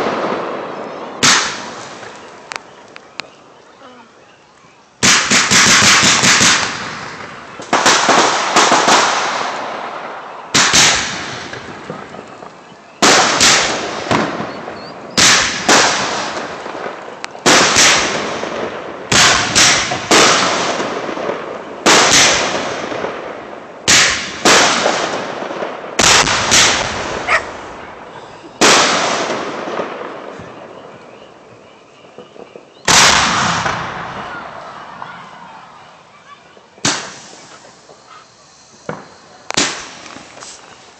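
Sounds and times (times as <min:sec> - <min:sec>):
fireworks bursting with loud bangs: 0:00.0 - 0:03.3, 0:05.0 - 0:40.9.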